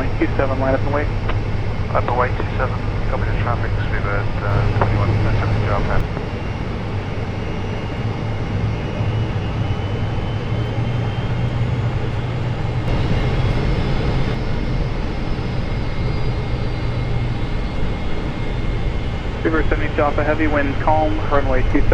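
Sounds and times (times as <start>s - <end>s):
airplane cabin engine rumble: 0.0s - 21.9s
faint high engine whine: 0.0s - 21.9s.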